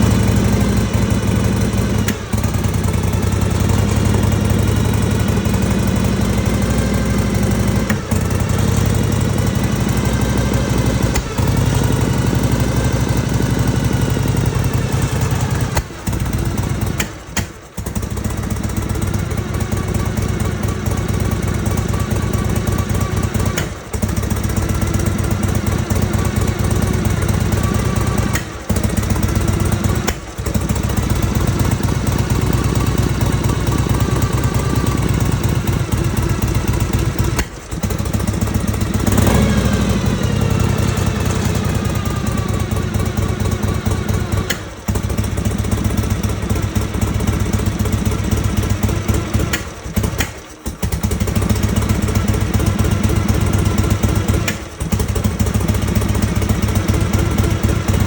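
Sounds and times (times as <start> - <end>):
motorcycle engine stumbling and coughing: 0.0 - 58.0.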